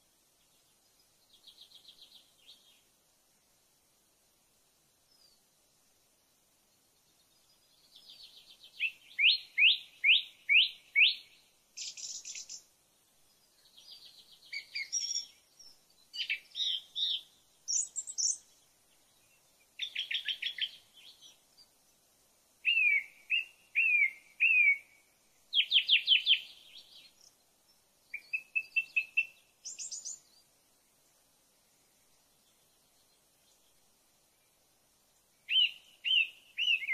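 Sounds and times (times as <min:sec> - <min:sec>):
songbird singing: 0:00.0 - 0:03.6, 0:04.8 - 0:36.9.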